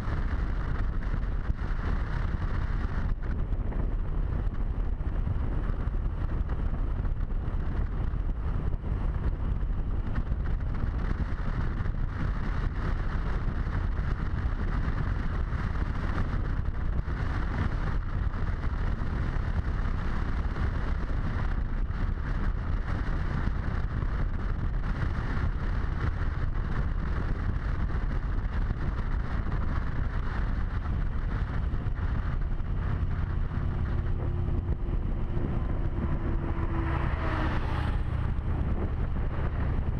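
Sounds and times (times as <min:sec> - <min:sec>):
motorcycle engine rumble: 0:00.0 - 0:39.9
wind rushing over camera: 0:00.0 - 0:39.9.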